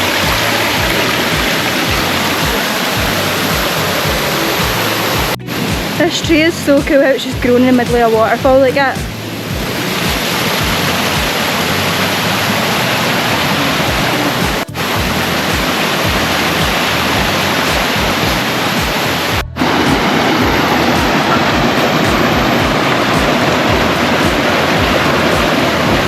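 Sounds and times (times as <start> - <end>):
waterfall rushing over rock: 0.0 - 26.0.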